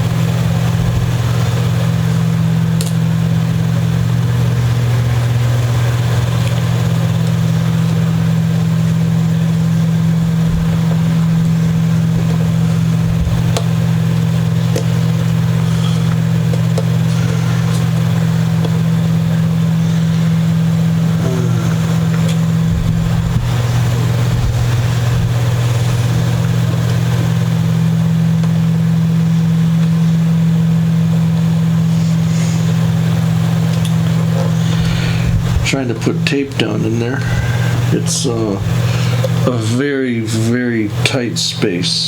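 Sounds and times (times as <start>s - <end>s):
loud low hum: 0.0s - 42.0s.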